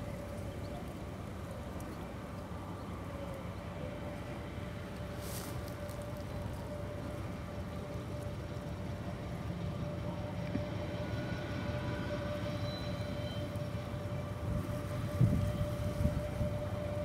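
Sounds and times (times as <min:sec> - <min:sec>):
constant hum: 0:00.0 - 0:17.0
locomotive engine rumble: 0:00.0 - 0:17.0.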